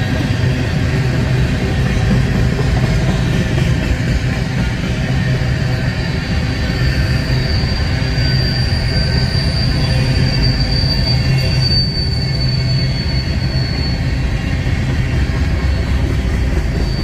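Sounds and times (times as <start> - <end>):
train rumbling by: 0.0 - 17.0
wheels squealing on rail: 0.0 - 17.0.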